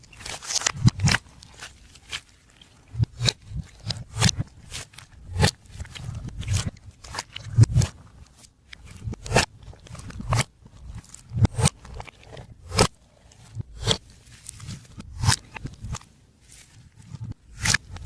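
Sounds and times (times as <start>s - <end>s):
soft crackling of slime: 0.0s - 18.0s.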